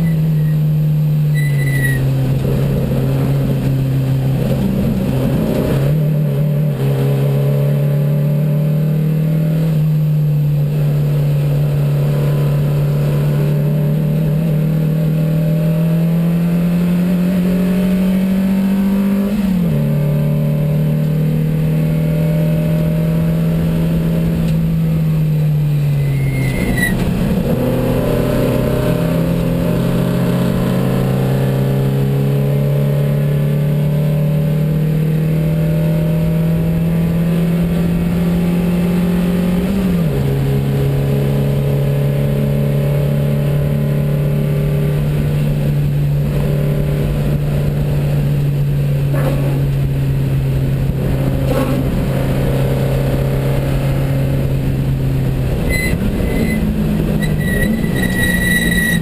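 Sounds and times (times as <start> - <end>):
racing engine accelerating: 0.0 - 59.0.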